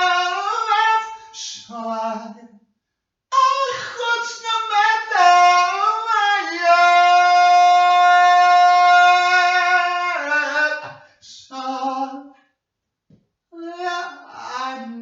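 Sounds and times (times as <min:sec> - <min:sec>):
person singing without words: 0:00.0 - 0:02.5, 0:03.3 - 0:12.4, 0:13.6 - 0:15.0.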